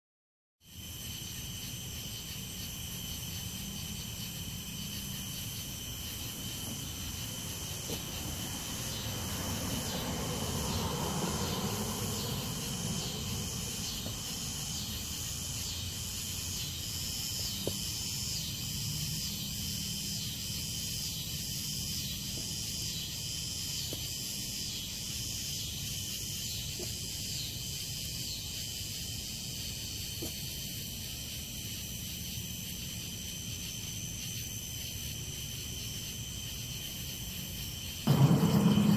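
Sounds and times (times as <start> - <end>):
insects trilling: 0.6 - 38.9
pulsing insect call: 0.7 - 38.9.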